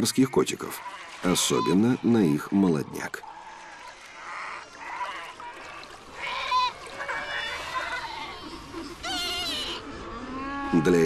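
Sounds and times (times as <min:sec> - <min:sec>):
seal pups bleating: 0:00.7 - 0:02.5, 0:03.2 - 0:11.0.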